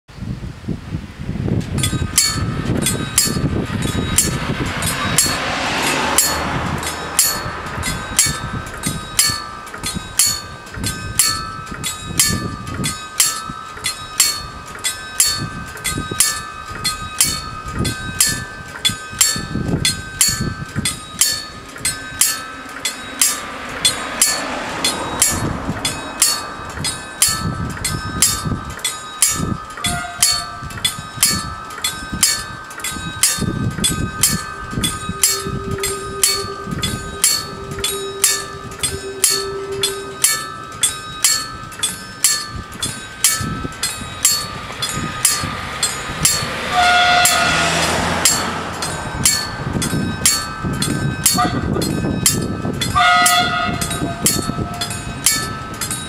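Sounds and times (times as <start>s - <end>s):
level crossing warning bells: 1.7s - 56.0s.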